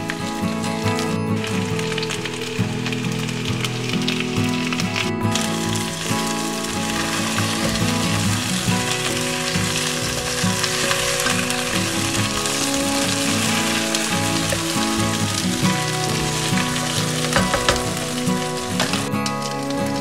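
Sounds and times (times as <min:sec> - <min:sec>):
background music: 0:00.0 - 0:20.0
potatoes sizzling in oil: 0:00.0 - 0:20.0.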